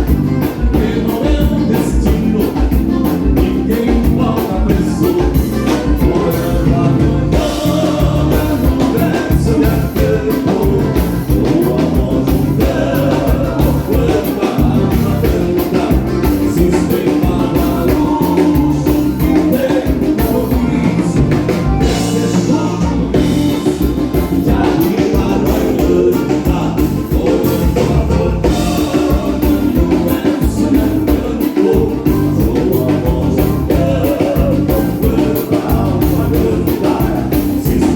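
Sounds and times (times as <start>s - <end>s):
live dance band playing: 0.0s - 37.9s
person singing: 0.0s - 37.9s.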